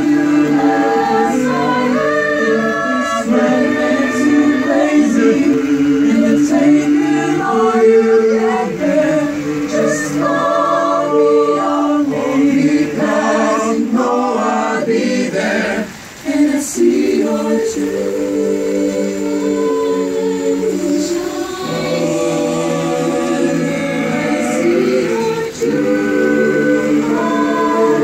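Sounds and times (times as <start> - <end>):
choir singing a cappella: 0.0 - 28.0.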